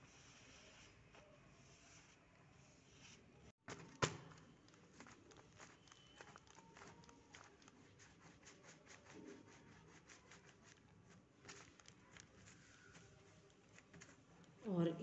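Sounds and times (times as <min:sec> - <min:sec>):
hands kneading dough: 0:00.0 - 0:15.0.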